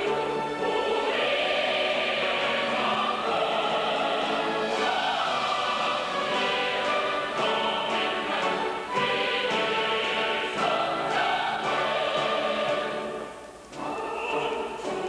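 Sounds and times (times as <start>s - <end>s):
group singing operatically: 0.0s - 15.0s
orchestral accompaniment: 0.0s - 15.0s.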